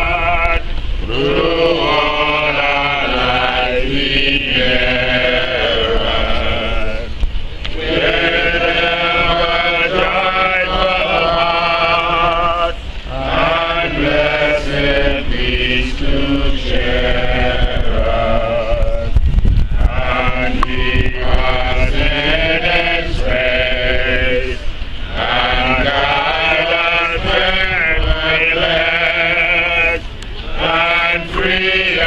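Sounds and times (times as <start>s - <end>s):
low rumble on microphone: 0.0s - 32.0s
people singing together: 0.0s - 32.0s.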